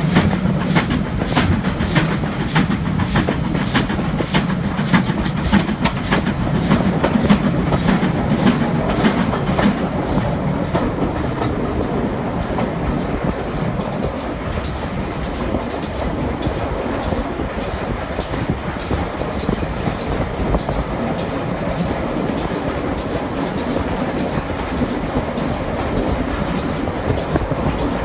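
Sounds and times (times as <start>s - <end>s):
steam locomotive beats: 0.0s - 28.0s
train wheels rumbling on track: 0.0s - 28.0s.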